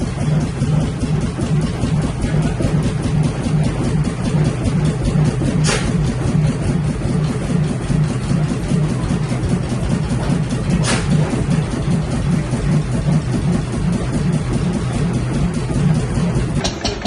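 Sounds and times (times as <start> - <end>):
stationary engine running: 0.0 - 17.0.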